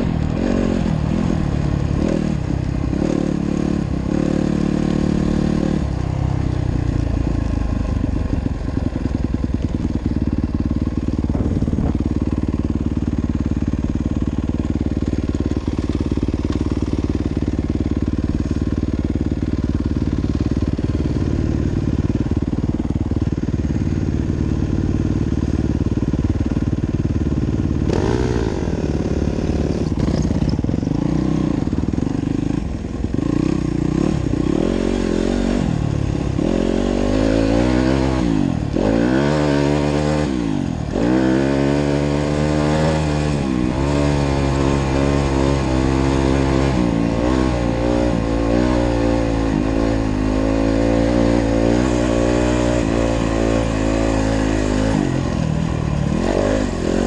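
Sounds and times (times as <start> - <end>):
dirt bike engine revving: 0.0 - 7.4, 8.8 - 57.0.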